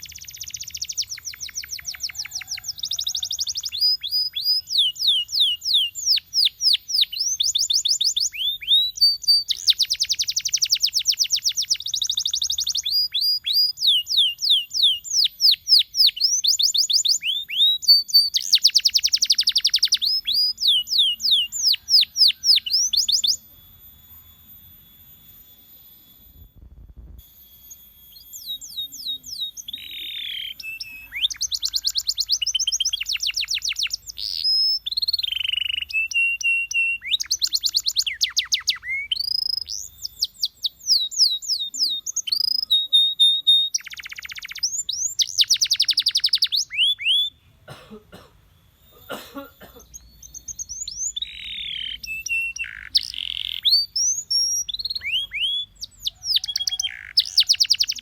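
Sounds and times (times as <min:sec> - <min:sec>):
canary singing trills: 0:00.0 - 0:47.7, 0:48.4 - 0:58.0.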